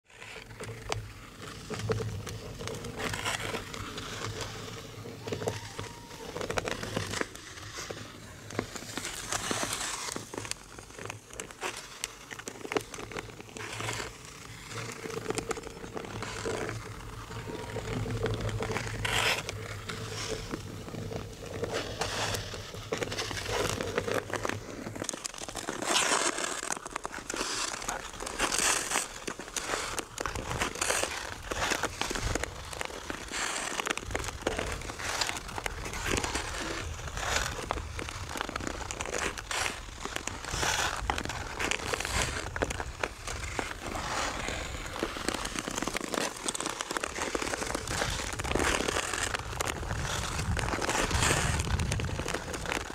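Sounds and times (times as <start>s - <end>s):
ice skates scraping ice: 0.0s - 52.9s
ice crackling: 0.1s - 52.9s.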